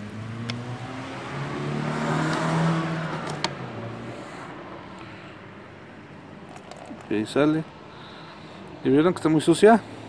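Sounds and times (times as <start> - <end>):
vehicle engine hum and road noise: 0.0 - 10.0.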